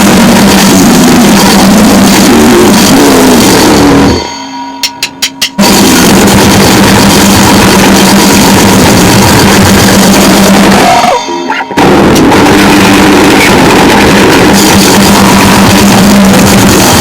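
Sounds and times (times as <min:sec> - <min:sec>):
noisecore band playing: 0:00.0 - 0:17.0.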